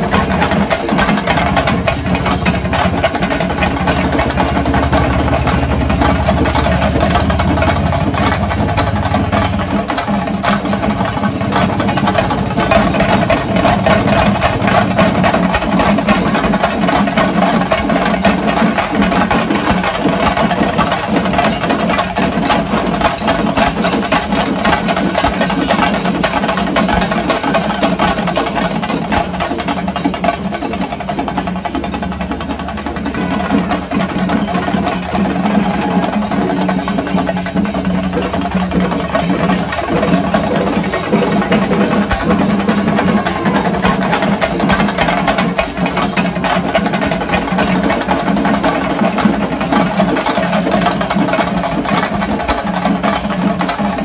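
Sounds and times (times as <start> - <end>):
fast drumming: 0.0 - 54.0.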